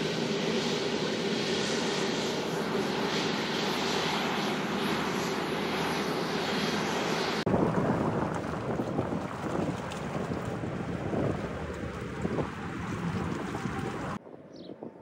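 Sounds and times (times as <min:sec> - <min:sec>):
jet engines running: 0:00.0 - 0:14.6.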